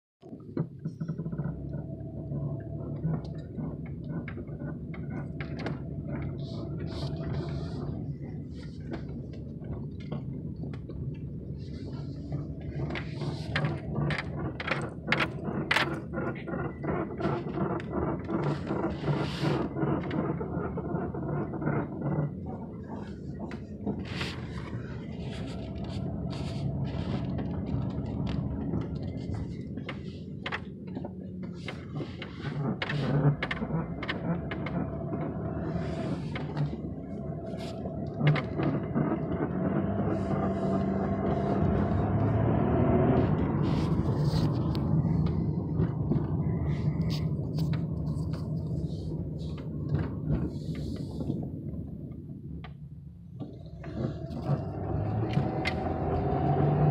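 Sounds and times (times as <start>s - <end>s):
car suspension clicks and creaks: 0.2s - 56.9s
low hum: 0.2s - 56.9s.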